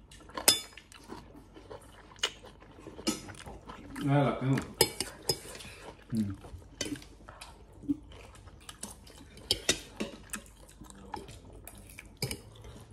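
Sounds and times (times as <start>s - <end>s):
chewing and slurping: 0.0s - 12.9s.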